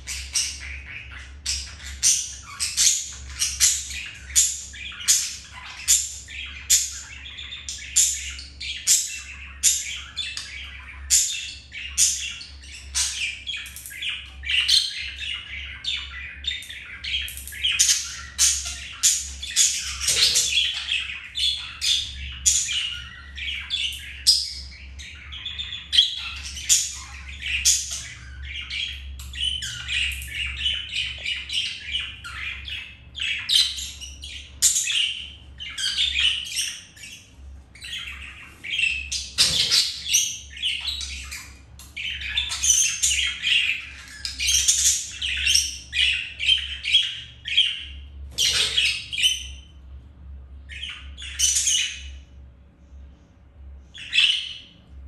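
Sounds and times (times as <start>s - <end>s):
budgerigars chattering: 0.0s - 49.8s, 50.7s - 52.2s, 53.9s - 54.8s.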